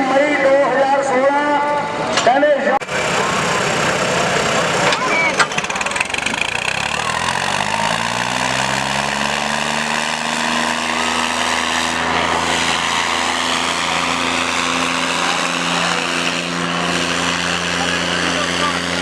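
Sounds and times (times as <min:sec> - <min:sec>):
tractor engines revving: 0:00.0 - 0:19.0.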